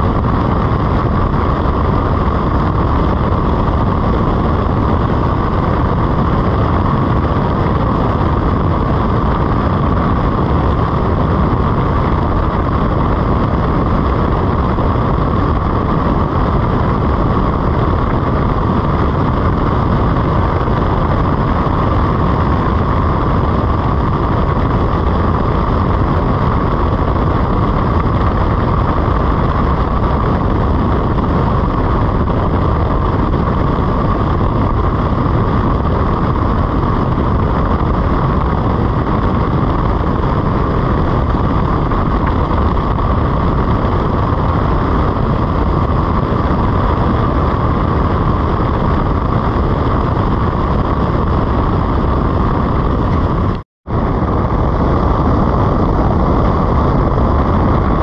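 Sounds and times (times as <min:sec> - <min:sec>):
motorcycle engine running: 0:00.0 - 0:58.0
road and wind rush: 0:00.0 - 0:58.0.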